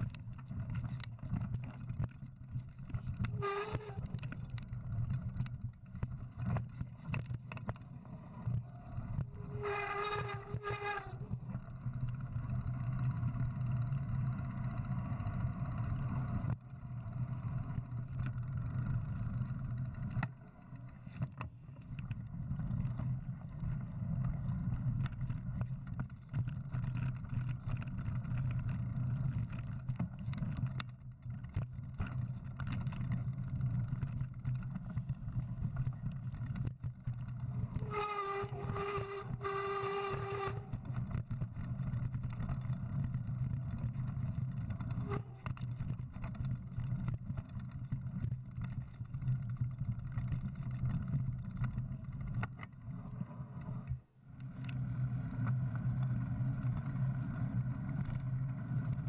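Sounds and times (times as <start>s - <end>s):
wind and tyre rumble: 0.0s - 59.0s.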